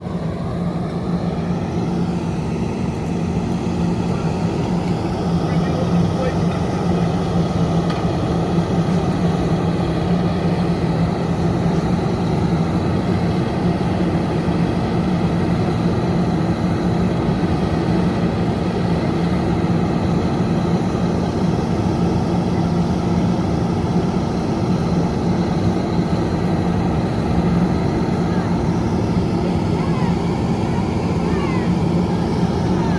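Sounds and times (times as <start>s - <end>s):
heavy vehicle engine running: 0.0s - 32.9s.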